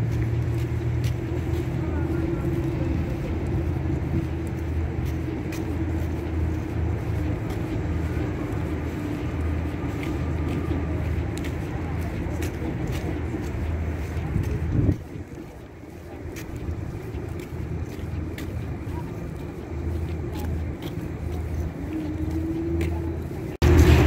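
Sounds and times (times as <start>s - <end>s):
vehicle rumble in motion: 0.0s - 24.0s.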